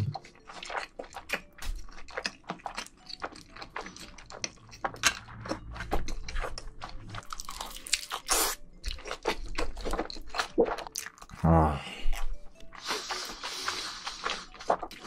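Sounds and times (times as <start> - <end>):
chewing noodles: 0.0 - 15.0.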